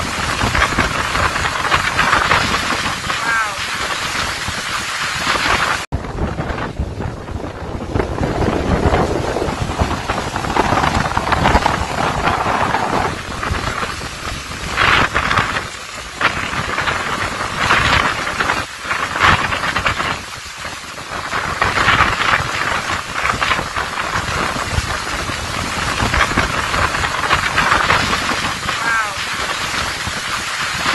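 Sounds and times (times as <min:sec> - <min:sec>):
gusting storm wind: 0:00.0 - 0:30.9
heavy rain: 0:00.0 - 0:30.9.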